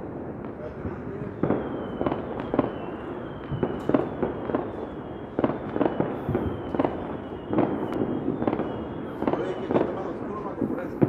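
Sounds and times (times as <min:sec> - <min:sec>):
firecracker bangs: 0:00.0 - 0:11.0
fireworks crackling: 0:00.0 - 0:11.0.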